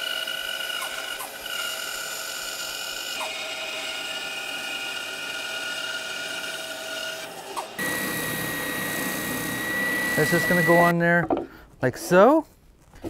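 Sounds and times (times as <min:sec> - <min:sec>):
bandsaw cutting plywood: 0:00.0 - 0:10.9.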